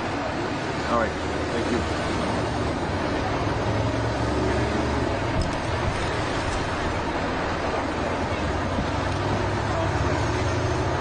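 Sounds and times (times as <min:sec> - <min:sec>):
low engine rumble: 0:00.0 - 0:11.0
outdoor noise: 0:00.0 - 0:11.0.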